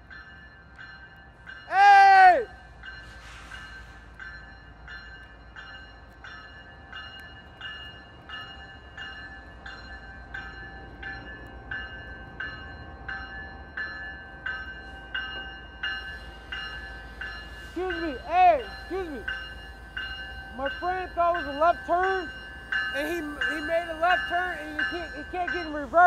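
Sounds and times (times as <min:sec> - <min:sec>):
crossing warning bell ringing: 0:00.0 - 0:26.0.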